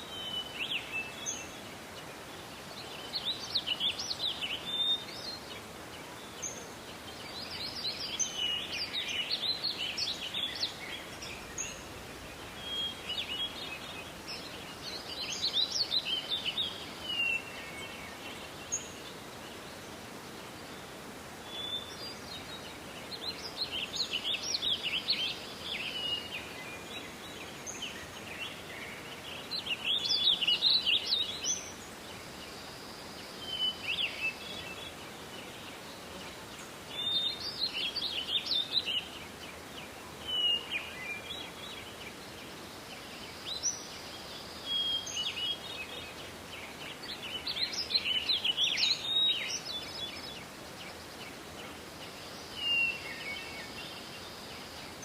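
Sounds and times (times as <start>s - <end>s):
forest ambience hiss: 0.0s - 55.0s
songbirds twittering: 0.0s - 55.0s.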